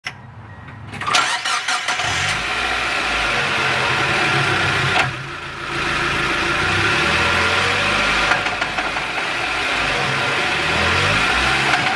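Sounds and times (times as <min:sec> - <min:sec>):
car engine starting and running: 0:01.0 - 0:11.9.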